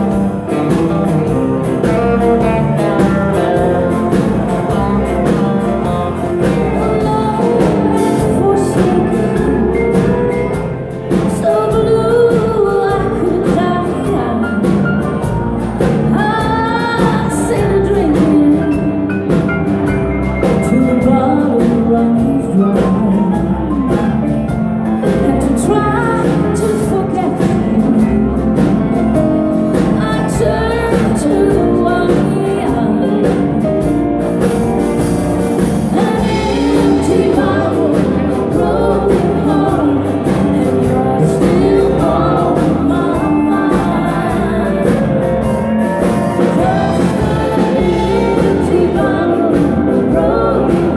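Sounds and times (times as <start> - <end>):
person singing: 0.0 - 34.6, 35.4 - 50.9
bass guitar: 0.0 - 50.9
drums: 0.0 - 50.9
guitar: 0.0 - 50.9.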